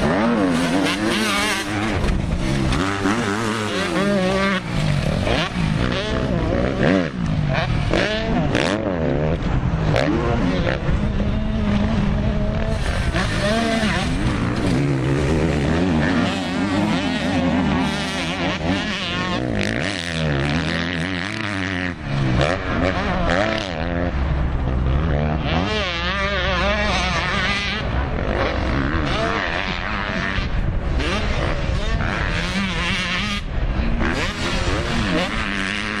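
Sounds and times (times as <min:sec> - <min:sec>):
motocross engines revving: 0:00.0 - 0:36.0.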